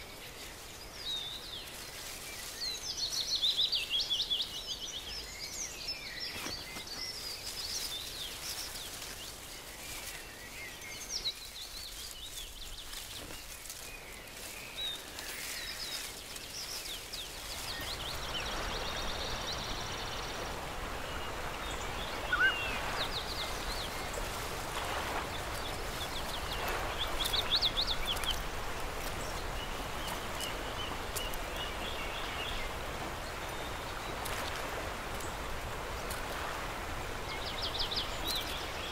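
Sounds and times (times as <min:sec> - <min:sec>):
birds chirping: 0:00.0 - 0:34.6.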